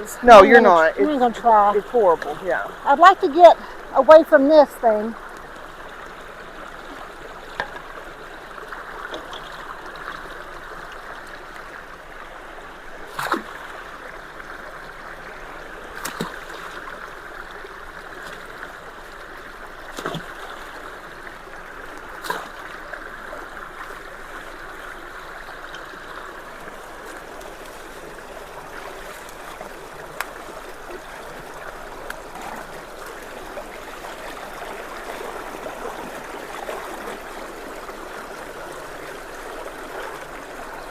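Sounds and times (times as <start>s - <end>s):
floodwater rushing through culvert: 0.0s - 40.9s.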